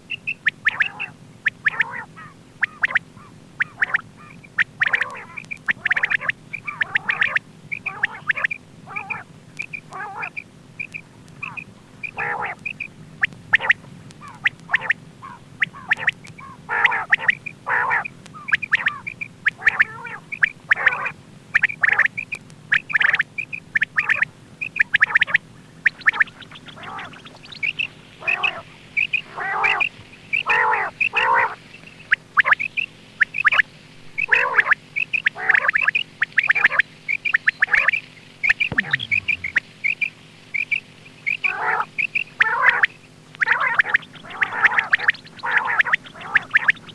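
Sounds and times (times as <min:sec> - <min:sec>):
faint steady hum: 0:00.0 - 0:46.9
quail calling: 0:00.0 - 0:46.9.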